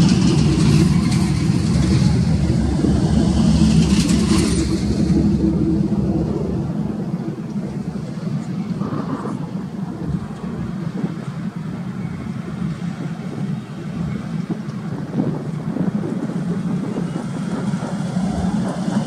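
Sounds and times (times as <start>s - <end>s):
diesel truck traffic rumble: 0.0s - 19.0s.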